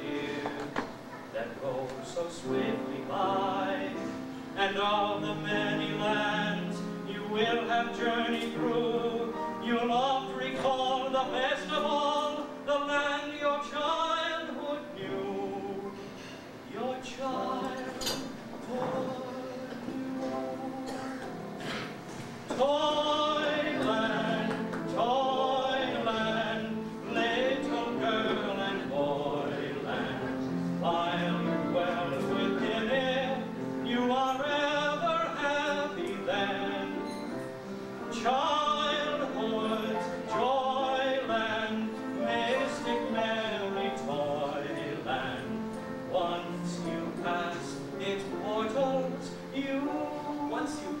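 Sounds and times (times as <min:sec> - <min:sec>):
person singing operatically: 0:01.4 - 0:16.0, 0:22.5 - 0:37.1, 0:38.0 - 0:51.0.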